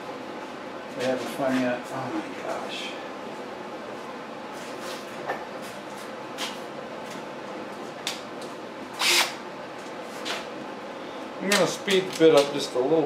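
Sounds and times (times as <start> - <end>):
workshop hum: 0.0 - 13.0.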